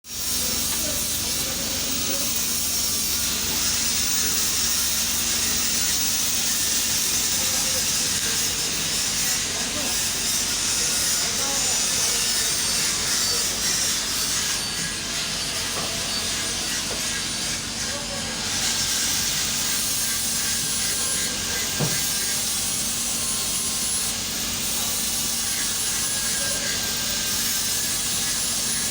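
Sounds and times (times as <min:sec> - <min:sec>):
welding arc hissing: 0:00.1 - 0:28.9.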